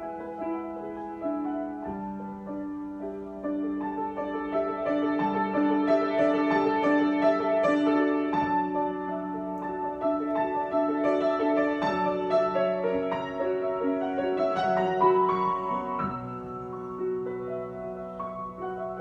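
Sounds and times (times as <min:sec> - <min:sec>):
solo piano: 0:00.0 - 0:19.0.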